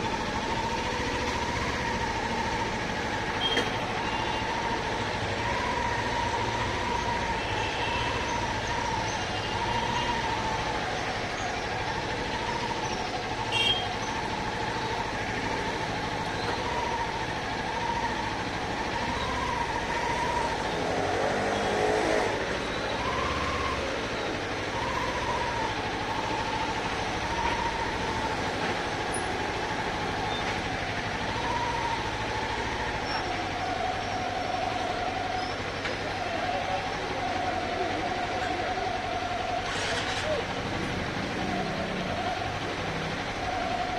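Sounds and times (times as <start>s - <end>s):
motorcycle engine whine: 0.0s - 43.9s
road noise: 0.0s - 43.9s.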